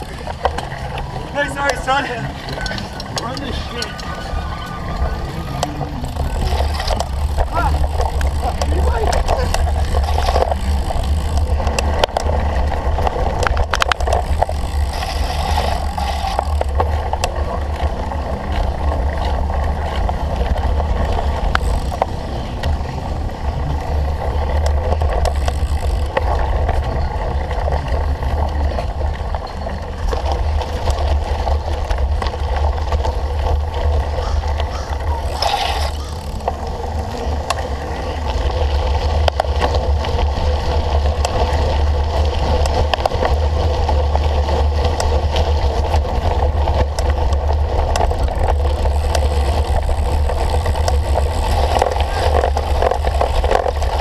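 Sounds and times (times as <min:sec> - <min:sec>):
bike clicks and rattles: 0:00.0 - 0:54.0
bike tyre noise: 0:00.0 - 0:54.0.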